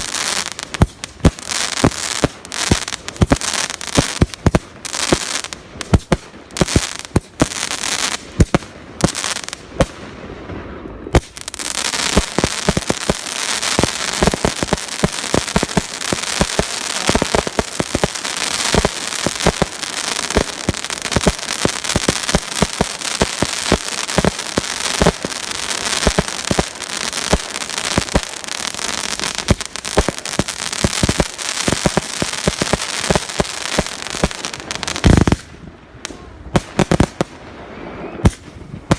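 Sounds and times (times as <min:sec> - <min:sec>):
fireworks bangs: 0:00.0 - 0:38.9
fireworks crackling and popping: 0:00.0 - 0:38.9.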